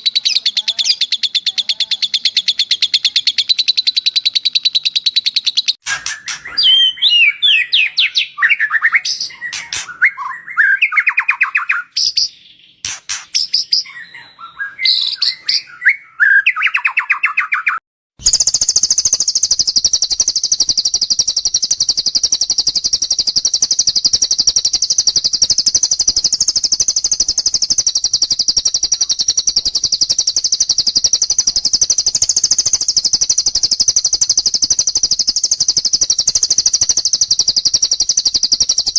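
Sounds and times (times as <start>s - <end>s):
bird whistled phrases: 0.0s - 38.9s
high-pitched chattering bird trill: 0.0s - 38.9s.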